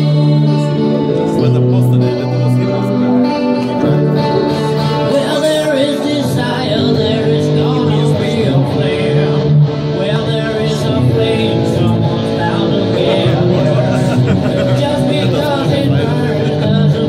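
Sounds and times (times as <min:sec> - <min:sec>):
electric guitar: 0:00.0 - 0:17.0
person singing: 0:00.0 - 0:17.0.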